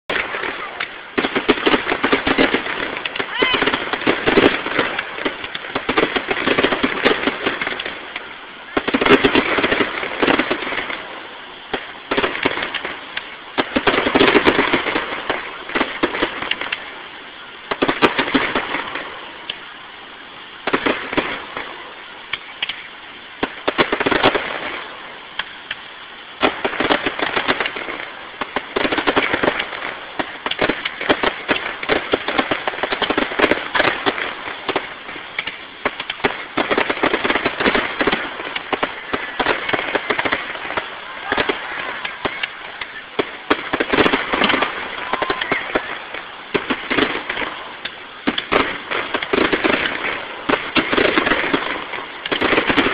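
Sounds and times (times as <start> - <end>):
fireworks popping and crackling: 0.0 - 52.9.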